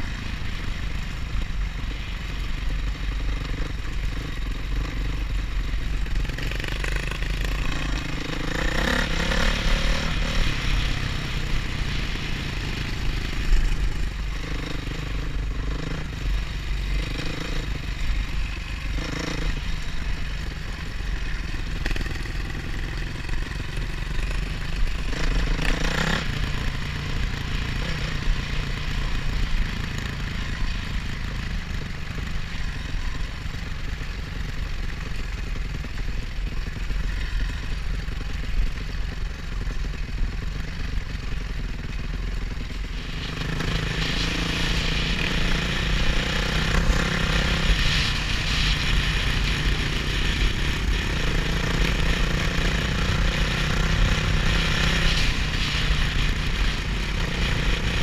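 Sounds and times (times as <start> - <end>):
motorcycle engine running: 0.0 - 58.0
wind: 0.0 - 58.0.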